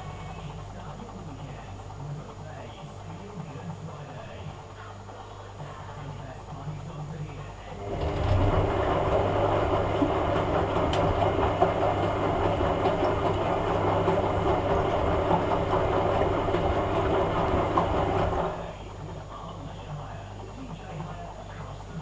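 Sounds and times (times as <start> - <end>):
washing machine humming and rattling: 0.0 - 22.0.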